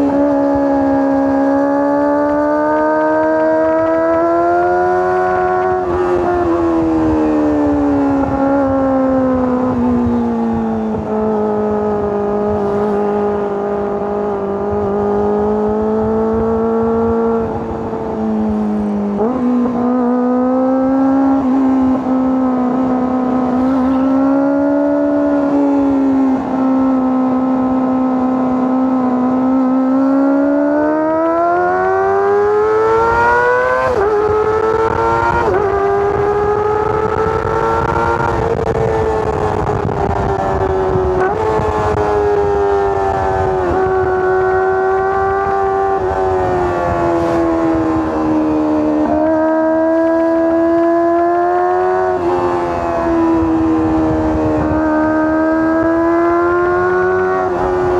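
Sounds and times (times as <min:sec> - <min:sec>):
motorcycle engine revving high: 0:00.0 - 0:57.9.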